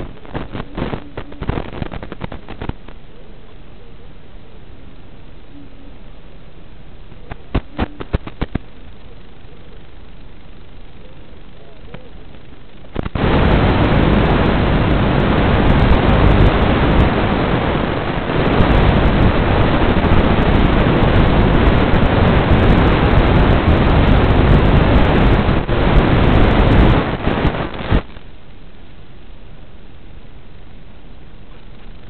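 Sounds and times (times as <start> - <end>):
loud static hiss: 0.0 - 32.0.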